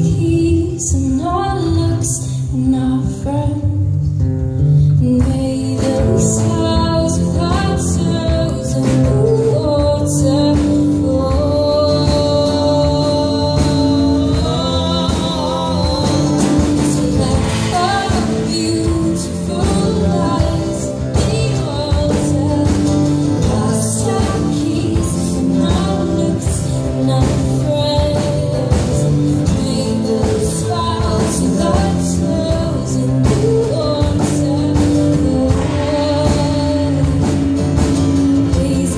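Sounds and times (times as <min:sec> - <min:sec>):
acoustic guitars strumming: 0:00.0 - 0:38.9
woman singing: 0:00.0 - 0:38.9.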